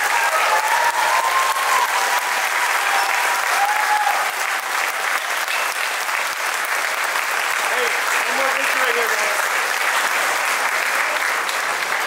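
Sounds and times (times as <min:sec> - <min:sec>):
crowd clapping: 0:00.0 - 0:12.0.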